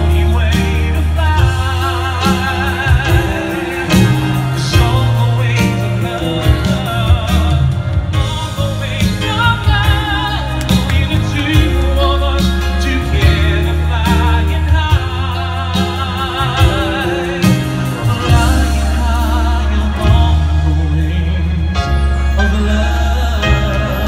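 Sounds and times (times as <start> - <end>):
man singing into microphone: 0.0 - 24.0
musical accompaniment with bass: 0.0 - 24.0.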